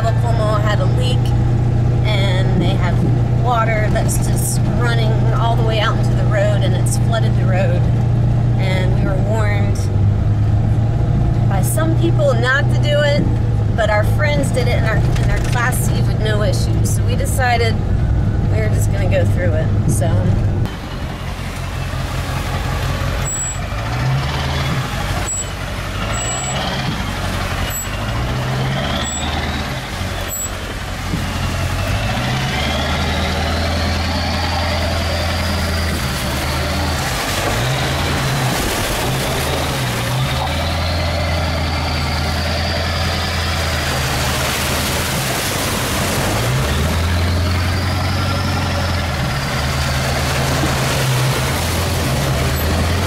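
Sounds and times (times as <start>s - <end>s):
pickup truck engine: 0.0s - 53.0s
water splashing against truck: 0.0s - 53.0s.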